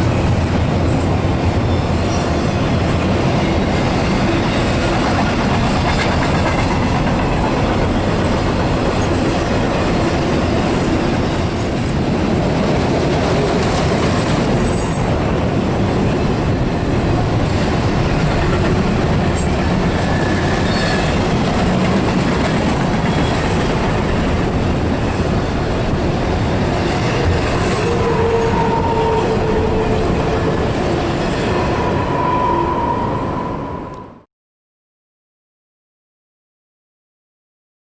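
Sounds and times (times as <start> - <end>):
railroad cars rumbling past: 0.0 - 34.3.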